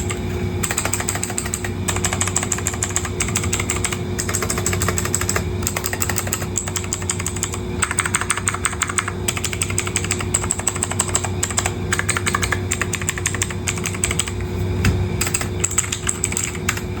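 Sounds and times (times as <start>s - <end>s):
clicky keyboard typing: 0.0s - 14.4s, 15.2s - 16.9s
steady low hum: 0.0s - 17.0s.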